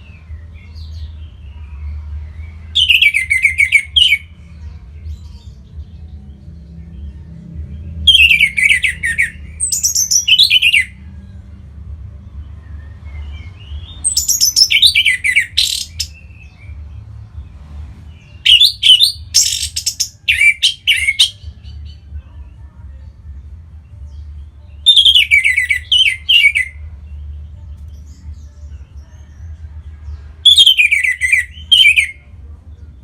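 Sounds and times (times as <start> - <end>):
thrush singing: 0.0 - 33.0.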